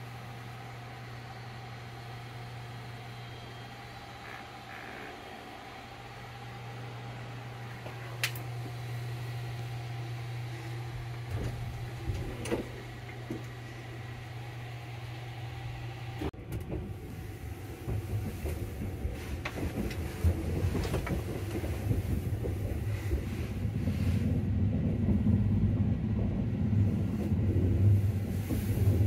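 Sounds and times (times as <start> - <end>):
low uneven rumble: 0.0 - 29.0
train compartment hum: 0.0 - 29.0.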